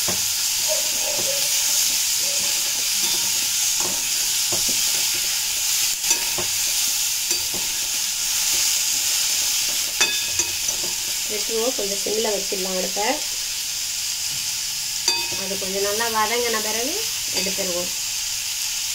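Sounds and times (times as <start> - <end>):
steel spoon scraping a pan: 0.0 - 13.3, 15.1 - 17.9
food sizzling in hot oil: 0.0 - 18.9.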